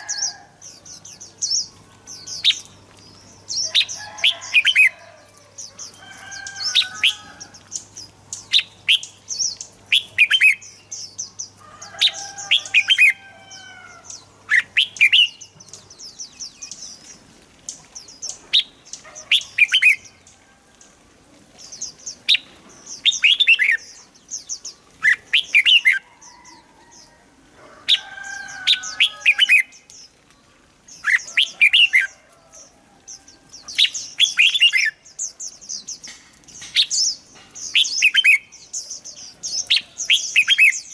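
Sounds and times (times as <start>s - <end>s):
bird chirping song: 0.0s - 27.2s, 27.9s - 40.9s.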